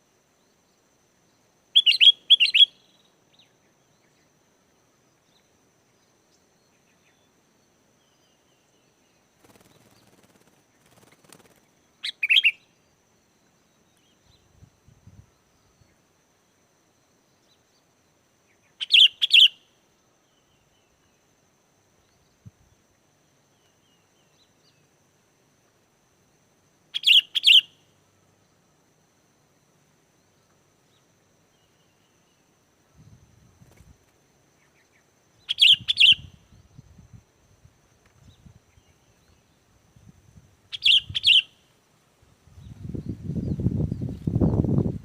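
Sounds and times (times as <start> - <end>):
faint bird chirps: 0.0 - 25.0, 26.9 - 28.7, 29.5 - 37.2, 37.8 - 41.8.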